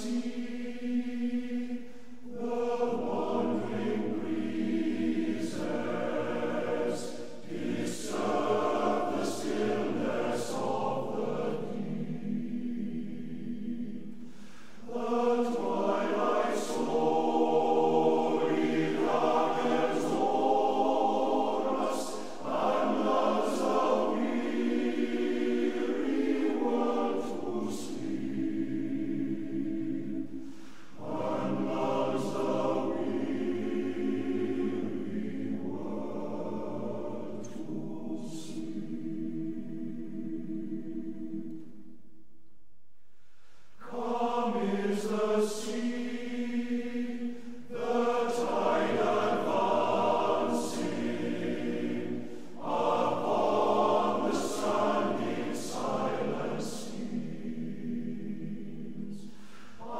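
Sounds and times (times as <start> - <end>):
choir singing: 0.0 - 42.1, 43.5 - 59.9.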